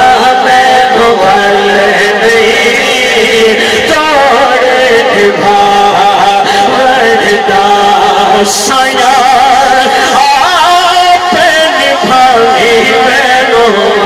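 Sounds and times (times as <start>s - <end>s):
man singing through pa: 0.0s - 14.0s.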